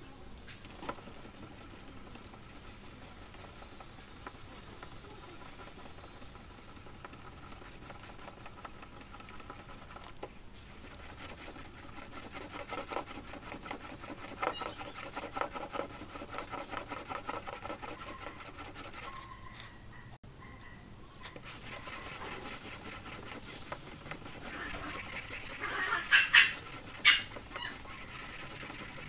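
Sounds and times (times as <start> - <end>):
sanding block scrubbing: 0.6 - 20.0, 21.3 - 29.0.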